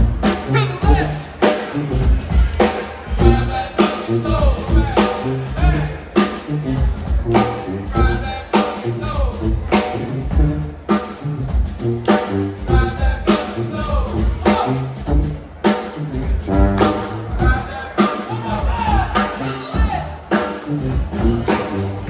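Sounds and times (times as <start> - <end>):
brass band playing: 0.0 - 22.0
drums beating: 0.0 - 22.0.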